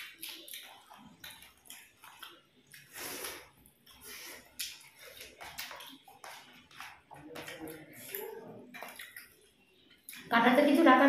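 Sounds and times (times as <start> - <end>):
wet chewing and lip-smacking: 0.0 - 10.3.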